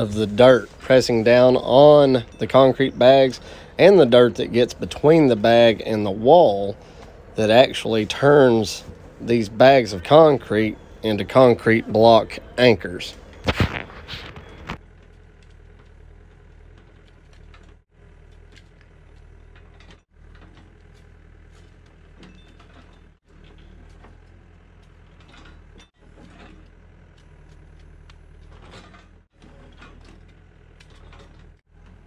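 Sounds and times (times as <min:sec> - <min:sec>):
excavator running: 0:00.0 - 0:32.0.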